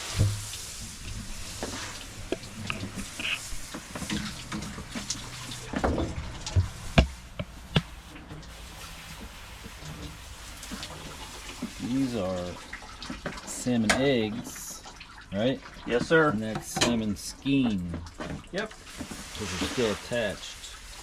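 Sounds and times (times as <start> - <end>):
water running from tap: 0.0 - 21.0.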